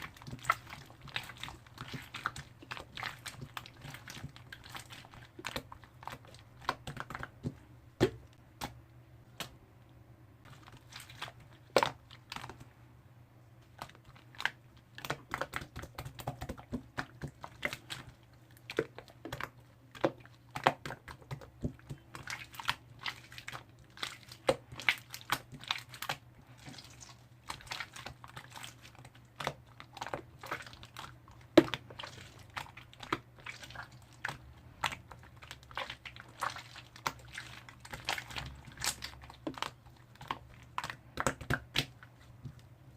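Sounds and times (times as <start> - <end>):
slime squishing with sticky pops: 0.0 - 9.6, 10.4 - 12.7, 13.6 - 42.9.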